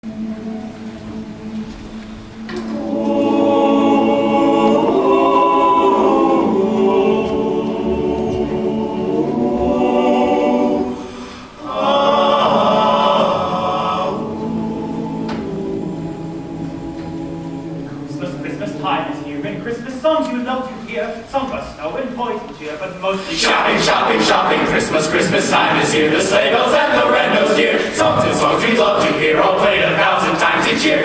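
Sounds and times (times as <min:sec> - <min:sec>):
choir singing held chords: 0:00.0 - 0:21.3, 0:23.0 - 0:31.0.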